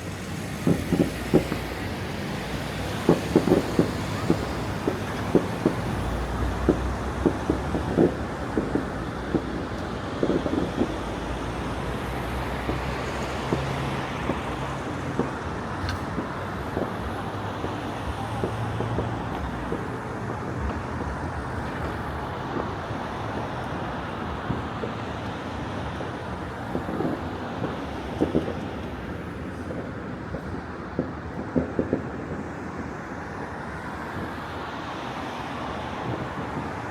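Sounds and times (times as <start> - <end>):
distant fireworks popping: 0.0 - 34.5, 35.2 - 36.9
city traffic rumble: 0.0 - 36.9.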